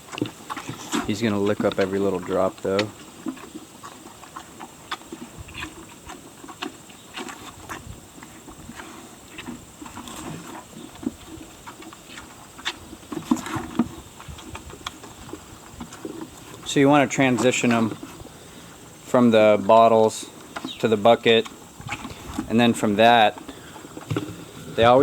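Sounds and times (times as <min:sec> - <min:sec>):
calf licking and slurping from bucket: 0:00.0 - 0:25.0.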